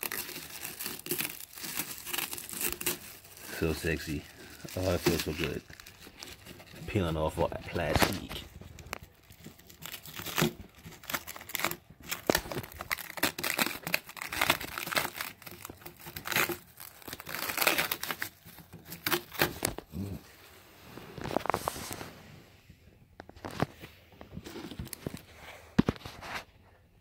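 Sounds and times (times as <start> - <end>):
plastic film peeling and crinkling: 0.0 - 20.1, 21.0 - 22.1, 23.2 - 26.4.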